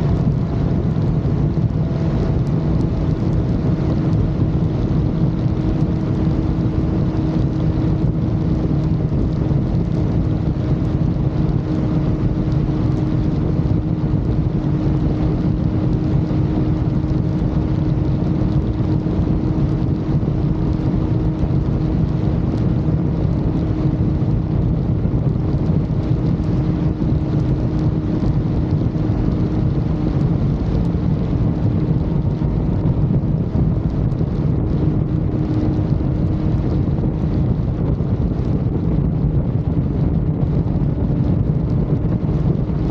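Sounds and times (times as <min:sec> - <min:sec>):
motorcycle engine cruising: 0:00.0 - 0:42.9
road rumble: 0:00.0 - 0:42.9
wind: 0:00.0 - 0:42.9.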